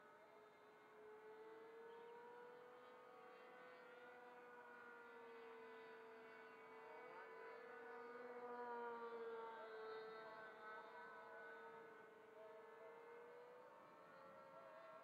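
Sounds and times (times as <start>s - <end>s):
distant model airplane engine drone: 0.0s - 15.0s.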